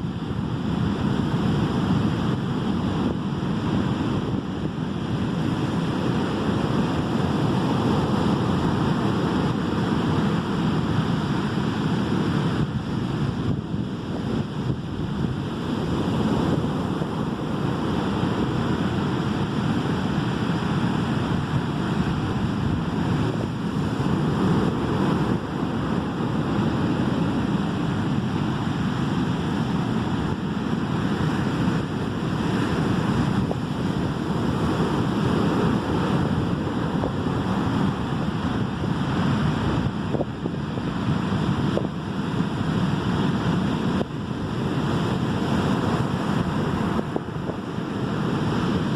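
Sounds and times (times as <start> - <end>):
ocean surf breaking on shore: 0.0 - 48.9.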